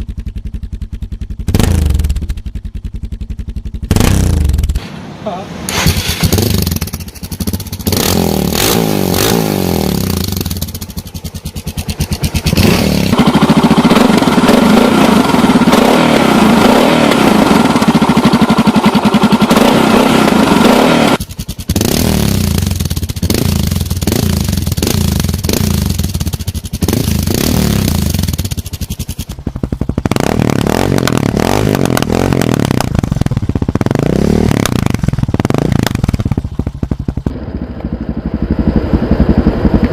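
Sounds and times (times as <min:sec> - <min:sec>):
motorcycle engine running: 0:00.0 - 0:04.8, 0:05.7 - 0:39.9.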